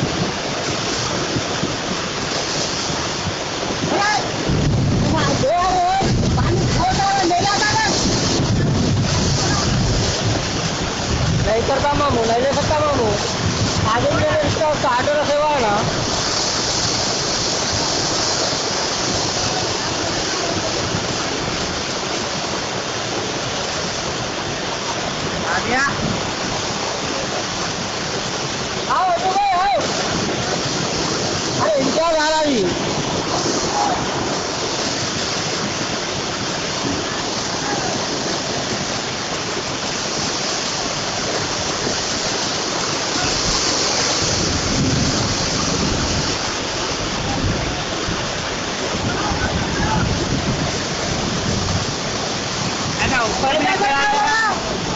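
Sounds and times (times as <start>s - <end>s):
downpour: 0.0s - 54.9s
fast-moving water rushing: 0.0s - 54.9s
heavy rain pouring: 0.0s - 54.9s.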